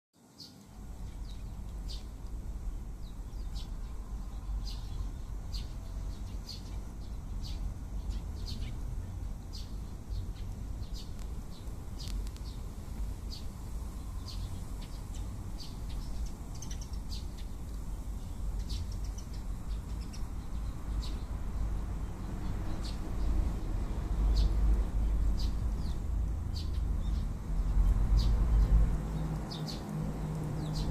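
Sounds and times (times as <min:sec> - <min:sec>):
sparrows chirping: 0:00.3 - 0:30.9
steady low rumble: 0:00.7 - 0:30.9.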